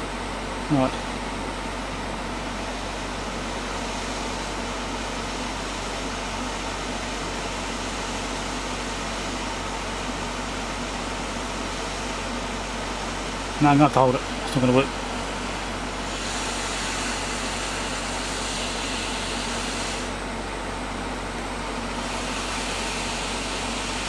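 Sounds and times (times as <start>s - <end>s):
hot air station blowing: 0.0s - 24.0s.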